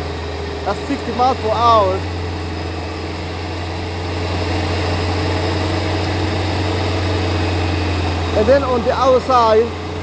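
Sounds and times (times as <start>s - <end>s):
car low hum: 0.0s - 10.0s.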